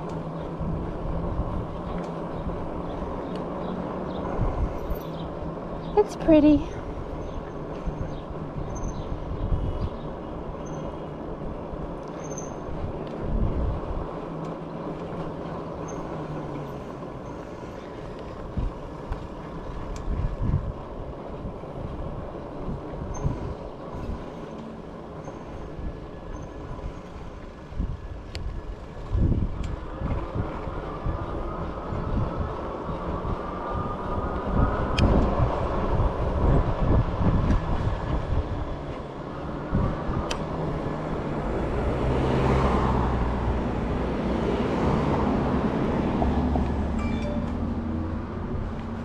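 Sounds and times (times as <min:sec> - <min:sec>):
wind buffeting microphone: 0:00.0 - 0:47.0, 0:47.6 - 0:49.0
e-bike rolling noise: 0:00.0 - 0:49.0.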